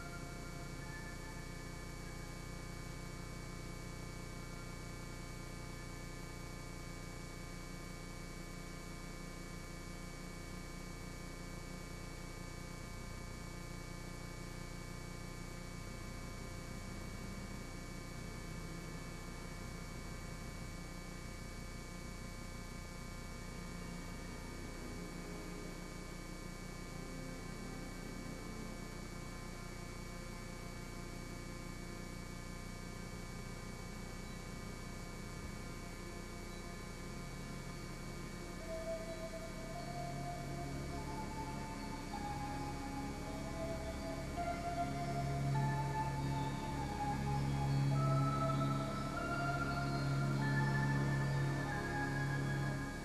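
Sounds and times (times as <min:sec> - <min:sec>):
steady electrical hum: 0:00.0 - 0:53.0.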